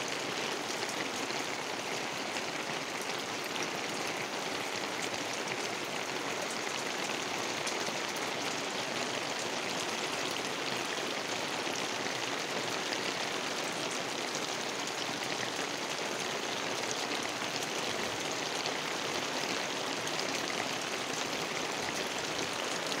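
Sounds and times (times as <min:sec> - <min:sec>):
heavy rain hissing: 0:00.0 - 0:23.0
raindrops ticking close by: 0:00.0 - 0:23.0.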